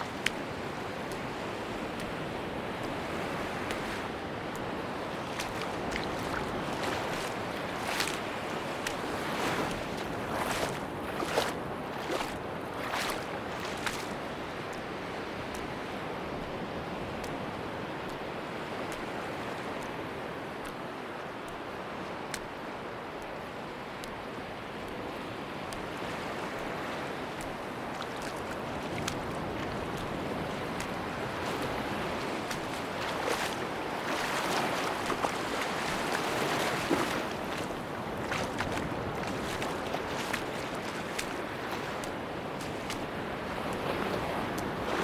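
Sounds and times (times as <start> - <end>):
sea waves washing on beach: 0.0 - 45.0.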